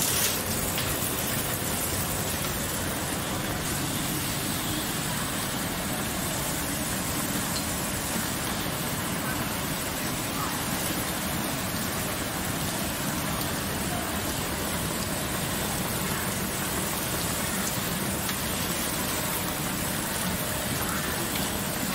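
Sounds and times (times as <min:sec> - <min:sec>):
production line machinery running: 0:00.0 - 0:21.9.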